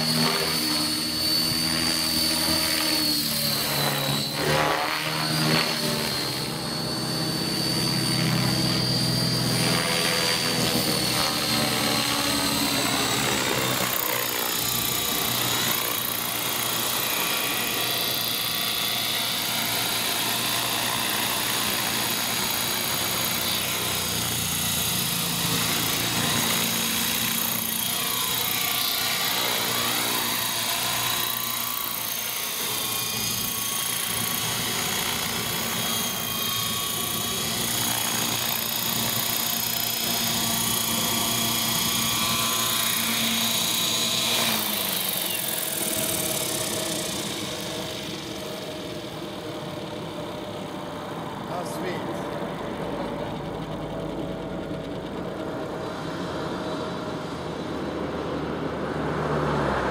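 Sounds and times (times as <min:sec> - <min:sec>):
model helicopter flying: 0:00.0 - 0:59.9.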